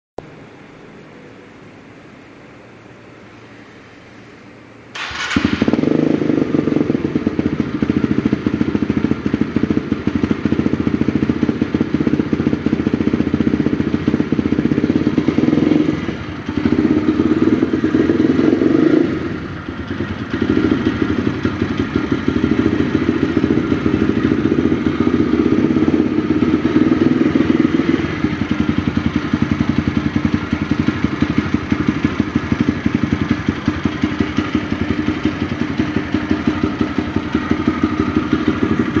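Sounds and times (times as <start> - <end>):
motorcycle engine starting and running: 4.9 - 39.0.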